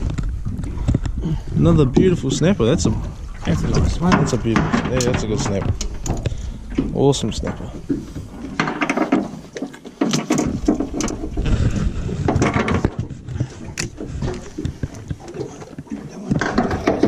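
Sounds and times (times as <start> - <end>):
knocks and clatter on boat deck: 1.8 - 17.0.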